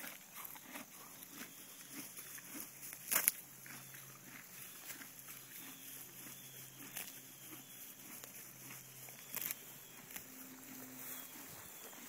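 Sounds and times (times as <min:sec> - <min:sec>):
horse tearing and chewing grass: 0:00.0 - 0:12.0.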